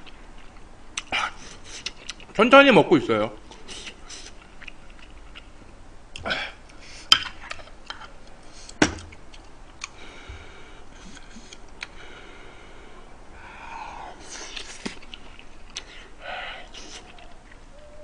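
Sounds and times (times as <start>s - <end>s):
faint mouth sounds of eating: 0.0s - 2.4s, 3.5s - 5.6s, 6.2s - 17.9s.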